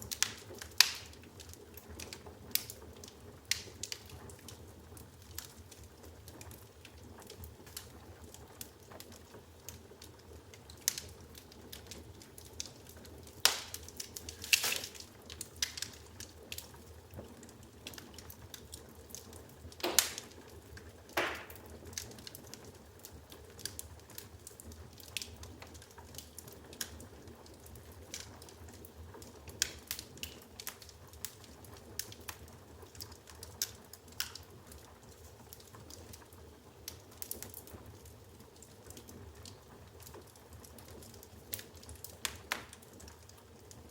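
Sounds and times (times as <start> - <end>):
firewood crackling and snapping: 0.0 - 43.9.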